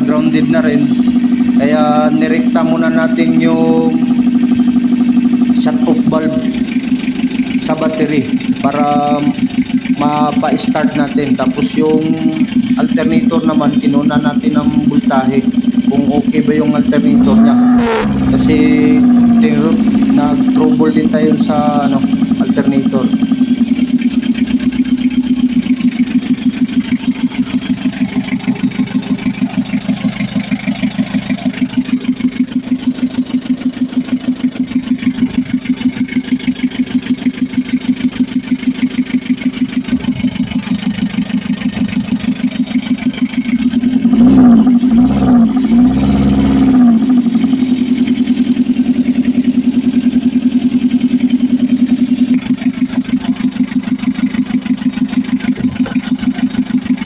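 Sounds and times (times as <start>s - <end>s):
diesel engine idling and revving: 0.0s - 57.0s.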